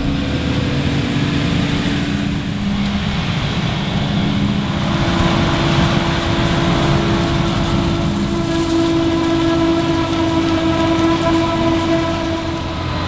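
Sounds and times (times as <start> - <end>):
diesel farm machinery rumble: 0.0 - 13.0
machinery whine: 0.0 - 13.0.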